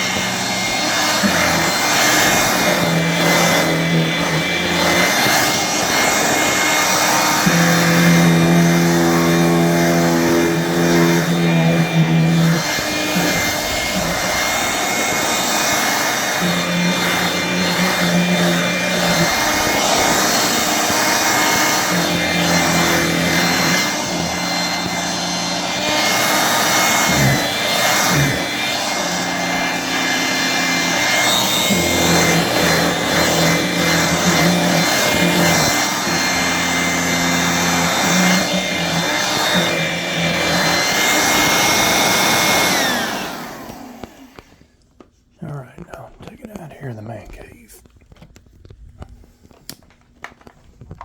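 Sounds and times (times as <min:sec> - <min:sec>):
vacuum motor winding down: 0:00.0 - 0:44.6
vacuum cleaner running: 0:00.0 - 0:44.8.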